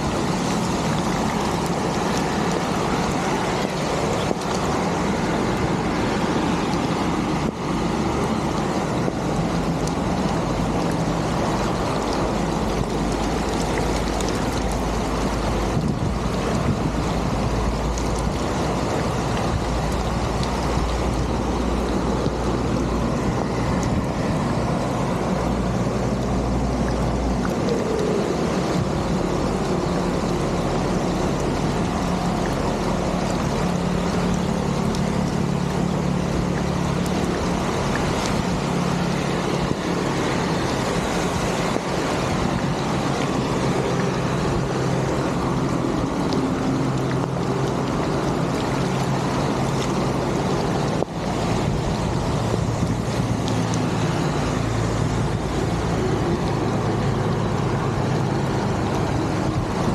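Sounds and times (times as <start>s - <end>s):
water rushing through drain: 0.0s - 59.9s.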